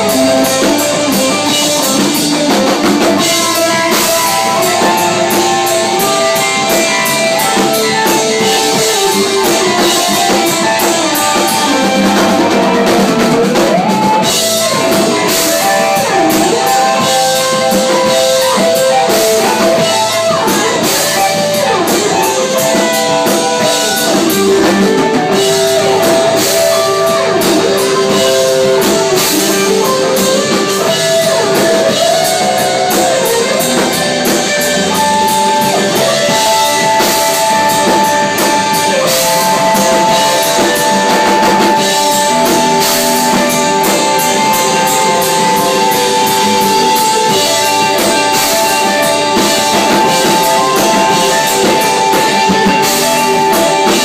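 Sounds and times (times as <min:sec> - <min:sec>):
drum kit with cymbals: 0:00.0 - 0:54.0
electric guitars bending notes: 0:00.0 - 0:54.0.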